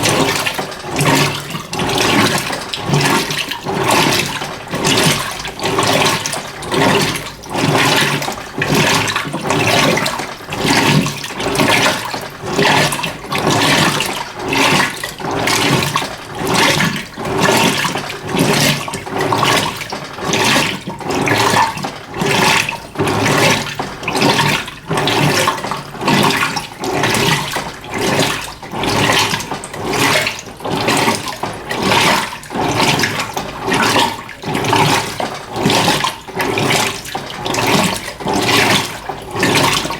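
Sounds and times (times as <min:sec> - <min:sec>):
washing machine motor hum: 0:00.0 - 0:39.9
water sloshing in washing machine: 0:00.0 - 0:39.9.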